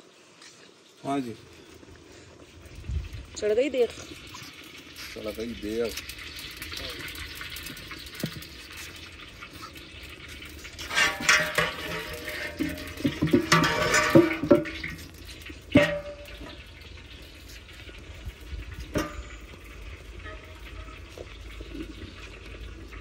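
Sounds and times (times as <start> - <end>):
ladle scraping metal pot: 4.3 - 22.9.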